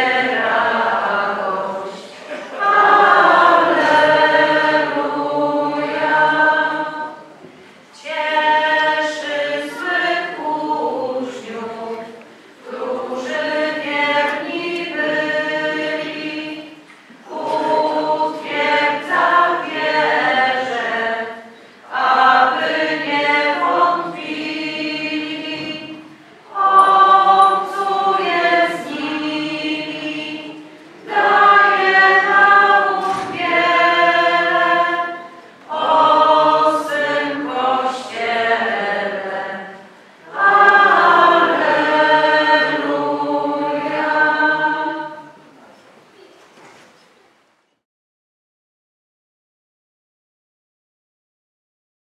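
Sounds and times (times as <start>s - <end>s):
choir singing a cappella: 0.0s - 45.7s.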